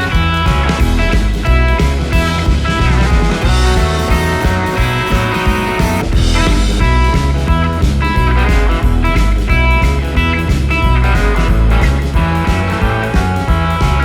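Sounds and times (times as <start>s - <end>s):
guitar-led rock music: 0.0s - 14.0s.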